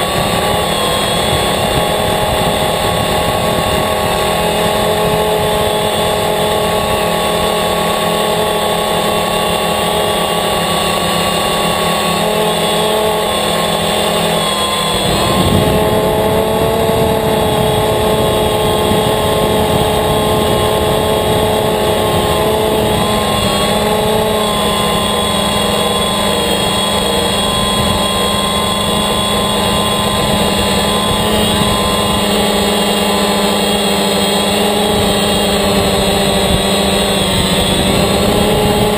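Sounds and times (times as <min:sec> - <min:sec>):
drone motors and propellers humming: 0:00.0 - 0:38.9.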